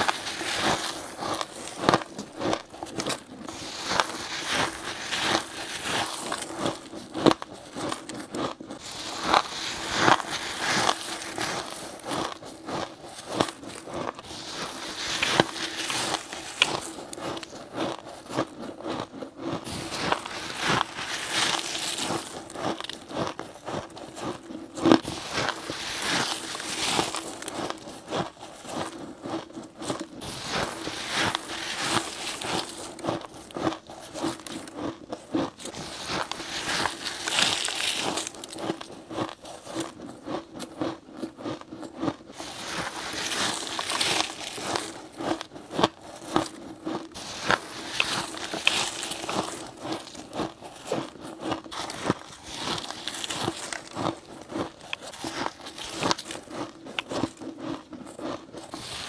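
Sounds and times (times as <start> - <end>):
crushed ice crunching: 0.0 - 59.0.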